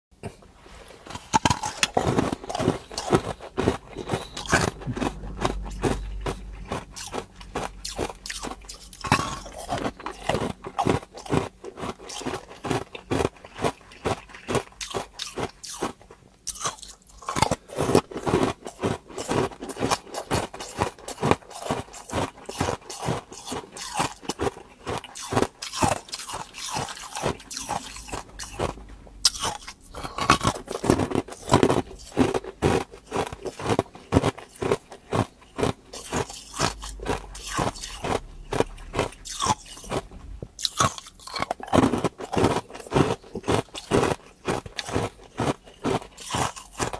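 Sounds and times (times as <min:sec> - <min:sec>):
person crunching ice cubes: 0:00.7 - 0:46.9.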